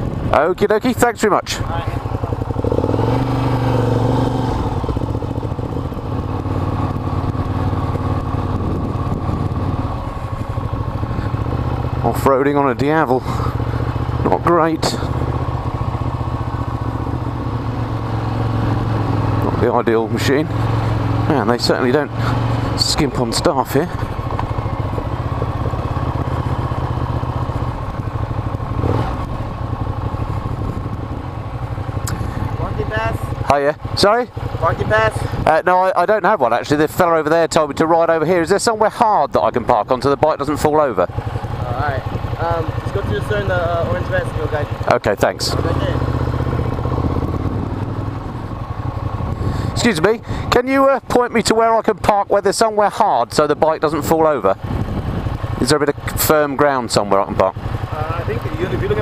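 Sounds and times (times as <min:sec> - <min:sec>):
motorcycle engine pulling away: 0:01.7 - 0:38.4, 0:39.4 - 0:52.0, 0:53.4 - 0:59.0.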